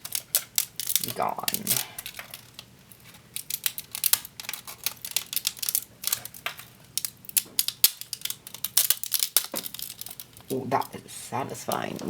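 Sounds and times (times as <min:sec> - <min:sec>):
plastic supports cracking: 0:00.0 - 0:11.0.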